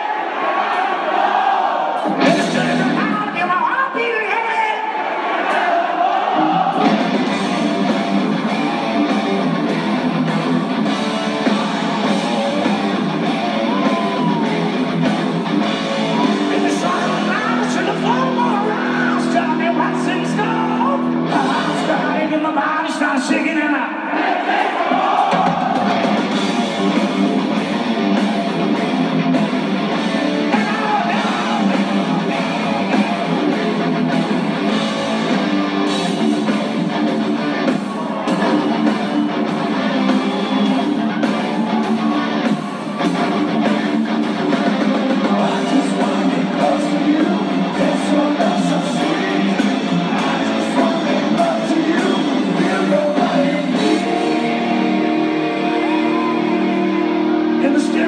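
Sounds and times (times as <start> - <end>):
rock song with guitar and drums: 2.0 - 3.4, 6.3 - 23.0, 25.2 - 58.0.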